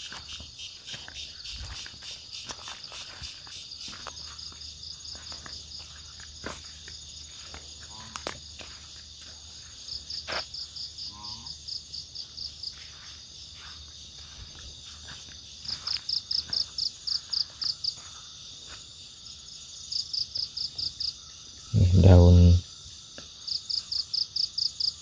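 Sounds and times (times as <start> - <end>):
high insect drone: 0.0 - 25.0
insects chirping in quick pulses: 0.0 - 25.0.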